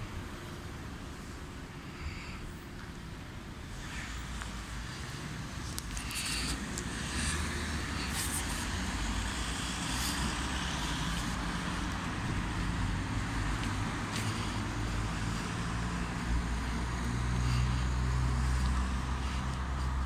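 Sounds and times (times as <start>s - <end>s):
car traffic hum: 0.0s - 20.0s.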